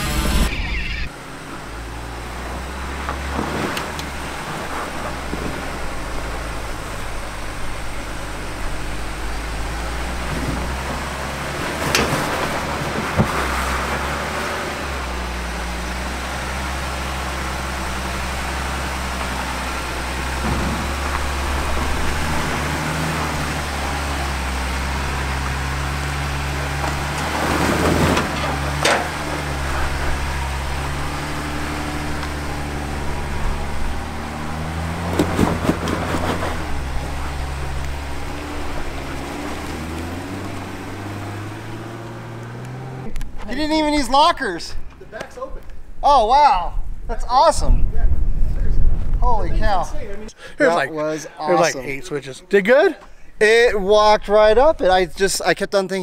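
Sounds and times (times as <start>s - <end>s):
truck engine at low revs: 0.0s - 55.9s.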